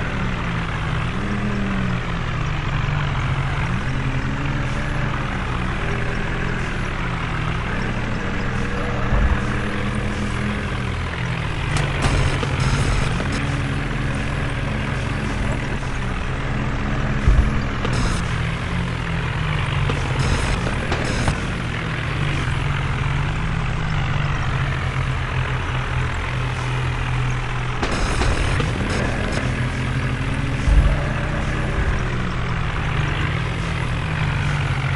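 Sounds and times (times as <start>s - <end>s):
tractor engine running under load: 0.0s - 34.9s.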